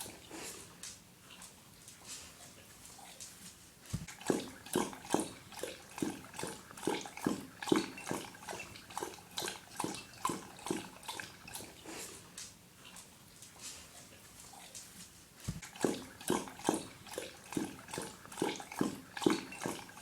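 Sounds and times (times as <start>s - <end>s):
dog lapping water: 0.0s - 0.8s, 3.9s - 14.8s, 15.4s - 20.0s.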